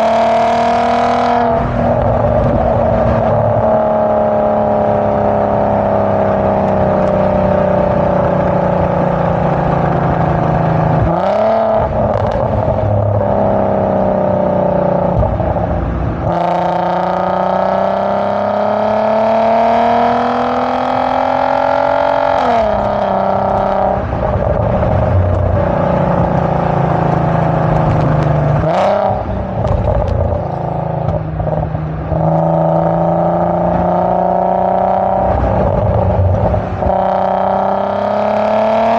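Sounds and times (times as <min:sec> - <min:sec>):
car exhaust accelerating: 0:00.0 - 0:38.9.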